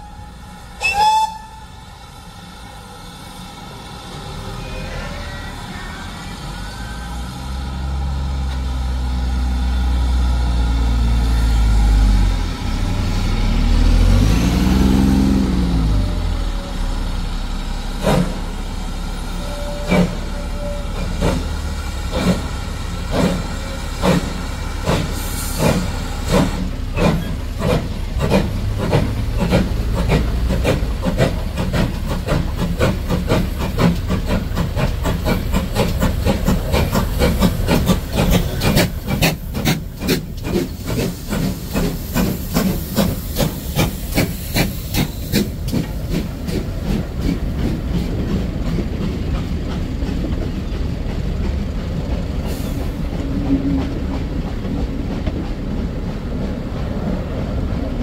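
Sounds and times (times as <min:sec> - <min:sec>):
hissing steam: 0:00.0 - 0:50.3, 0:51.4 - 0:58.0
steam locomotive exhaust beats: 0:00.0 - 0:58.0.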